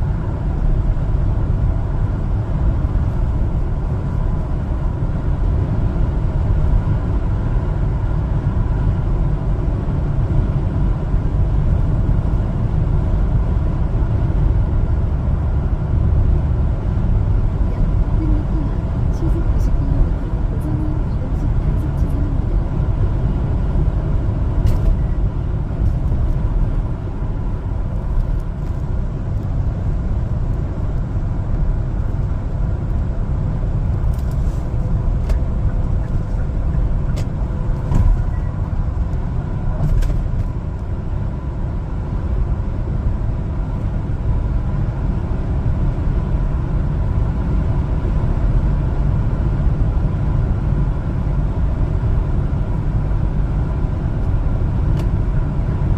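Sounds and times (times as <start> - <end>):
truck engine and road noise: 0.0 - 55.9.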